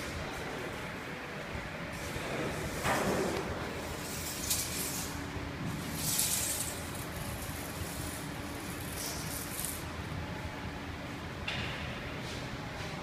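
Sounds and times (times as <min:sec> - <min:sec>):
machinery hum and rumble: 0:00.0 - 0:13.0.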